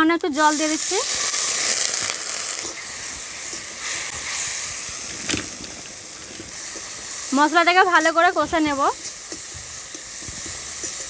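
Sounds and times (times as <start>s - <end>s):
water sizzling in hot oil: 0.0s - 11.0s.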